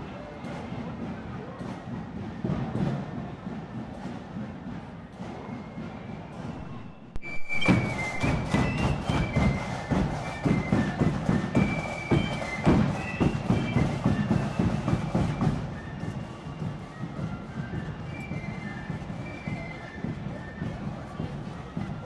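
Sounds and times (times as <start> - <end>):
street noise: 0.0 - 22.0
marching band playing: 0.4 - 22.0.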